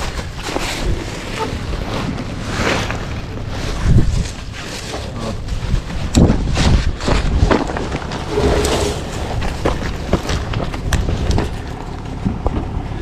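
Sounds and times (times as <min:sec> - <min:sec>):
wind buffeting microphone: 0:00.0 - 0:04.6, 0:05.4 - 0:13.0.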